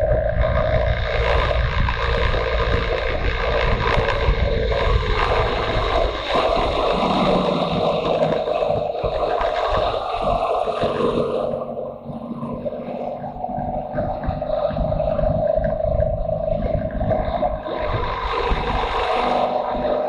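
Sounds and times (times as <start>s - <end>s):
motorcycle engine running: 0.0s - 20.0s
wind rumbling over microphone: 0.0s - 20.0s.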